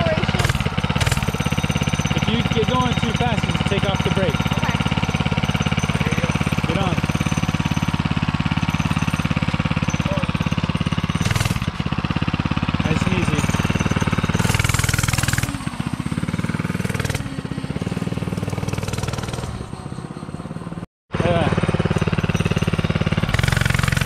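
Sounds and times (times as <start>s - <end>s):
mini bike engine running: 0.0s - 24.0s.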